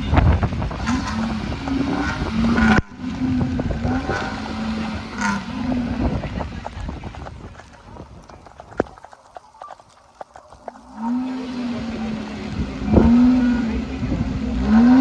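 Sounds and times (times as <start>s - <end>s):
off-road engine revving: 0.0s - 8.9s, 10.5s - 15.0s.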